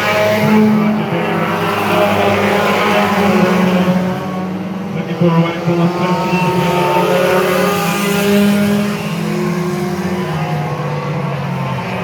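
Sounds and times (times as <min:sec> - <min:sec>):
race car engines passing: 0:00.0 - 0:12.0.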